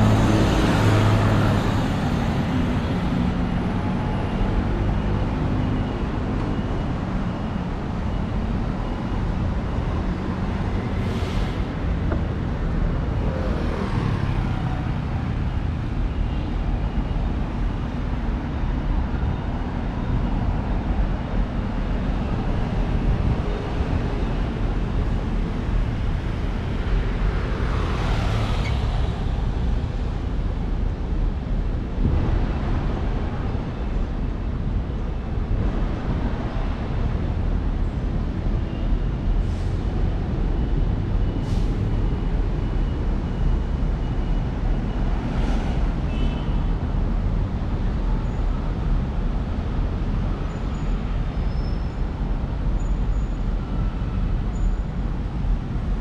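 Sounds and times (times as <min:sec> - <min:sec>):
traffic rumble: 0:00.0 - 0:56.0
vehicles passing by: 0:00.0 - 0:56.0.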